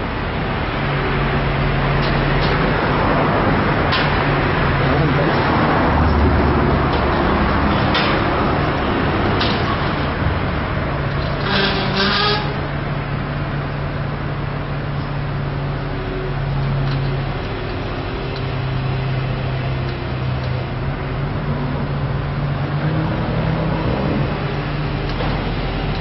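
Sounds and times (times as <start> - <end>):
large engine humming: 0.0 - 26.0.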